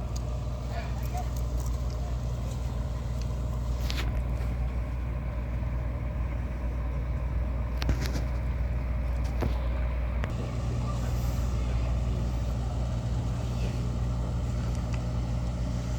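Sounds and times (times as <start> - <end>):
low engine rumble: 0.0 - 15.9.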